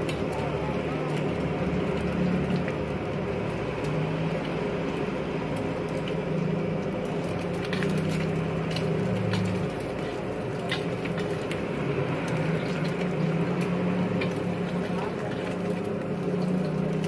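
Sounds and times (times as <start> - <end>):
egg sizzling in hot oil: 0.0 - 17.0.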